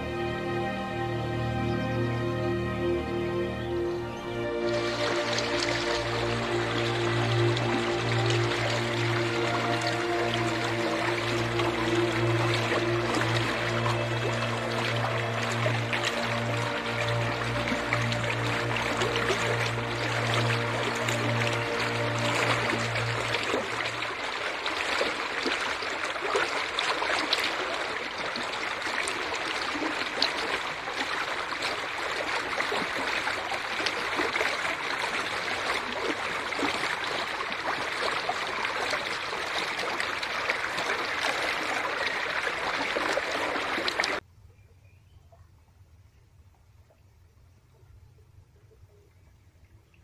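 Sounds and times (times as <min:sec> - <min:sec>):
river water rushing and splashing: 0:00.0 - 0:44.2.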